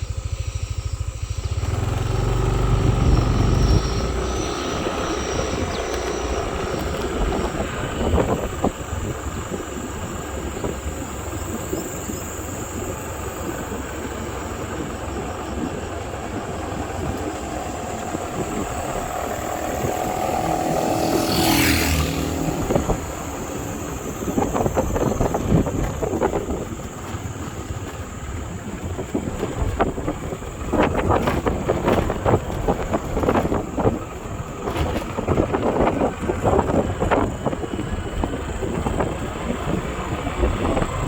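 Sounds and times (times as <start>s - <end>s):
vehicle engine running: 0.0s - 41.0s
wind on microphone: 0.0s - 41.0s.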